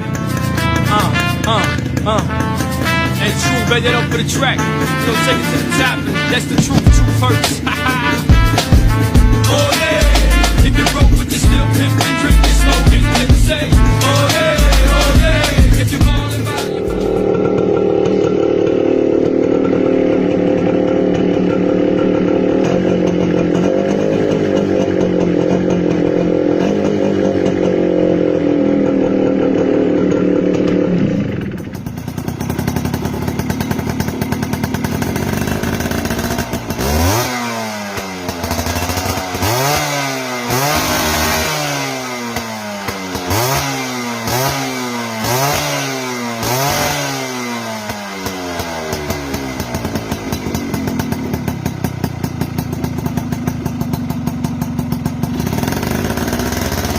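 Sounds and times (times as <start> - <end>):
two-stroke motorcycle engine revving: 0.0 - 56.9.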